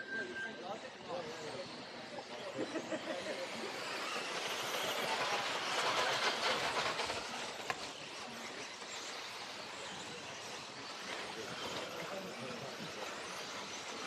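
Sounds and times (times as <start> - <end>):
rc cars rushing past: 0.7 - 14.0.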